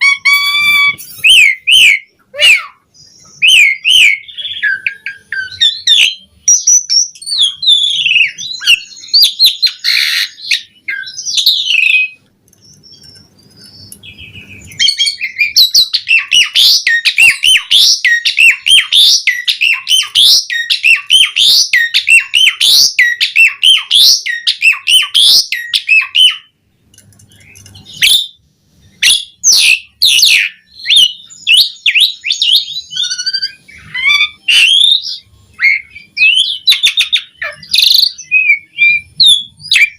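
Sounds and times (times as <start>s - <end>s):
starling whistles and chattering: 0.0s - 26.5s, 27.5s - 39.9s.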